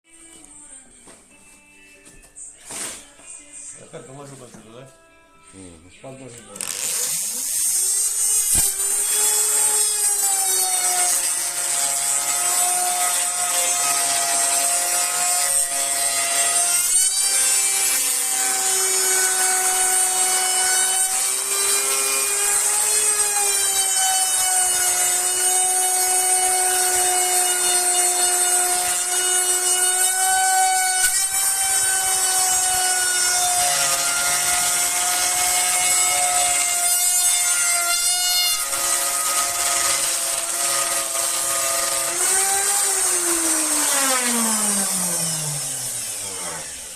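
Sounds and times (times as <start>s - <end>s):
electric router cutting wood: 6.4s - 46.9s.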